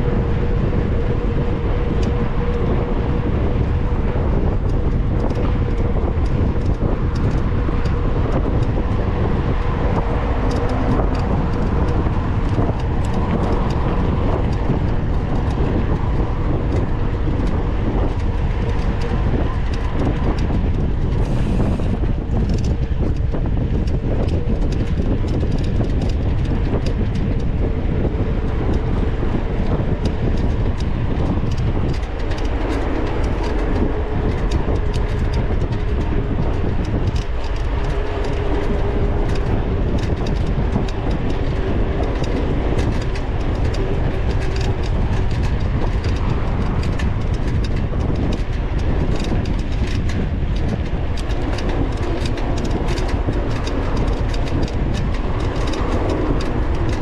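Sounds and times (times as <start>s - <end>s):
bike rattling clicks and knocks: 0.0s - 57.0s
low riding rumble: 0.0s - 57.0s.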